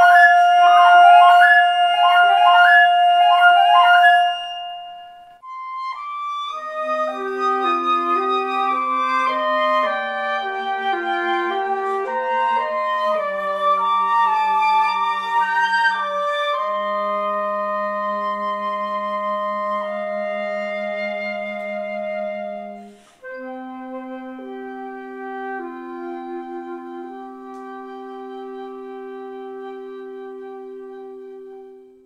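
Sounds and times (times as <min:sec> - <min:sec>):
flutes playing in harmony: 0:00.0 - 0:32.0.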